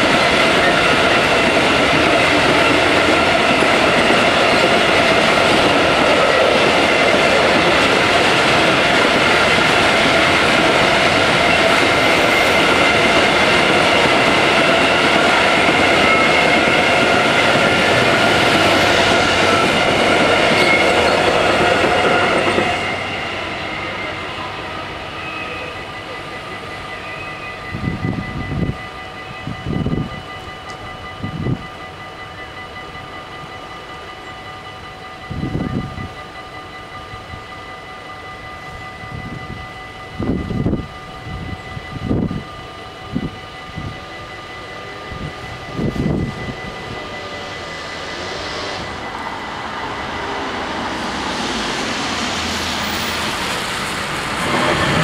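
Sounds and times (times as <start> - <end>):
crossing warning bells ringing: 0.0 - 55.0
train wheels rumbling on rails: 0.0 - 55.0.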